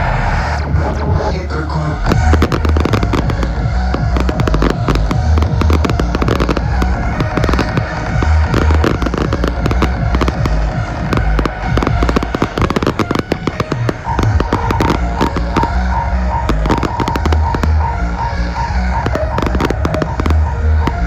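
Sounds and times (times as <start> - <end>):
music with heavy bass beat: 0.0 - 21.0
fireworks crackling pops: 2.0 - 21.0.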